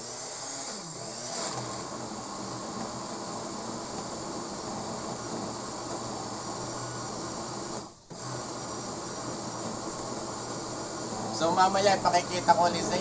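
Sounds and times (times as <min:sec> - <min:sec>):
electric blender running: 0:00.0 - 0:13.0.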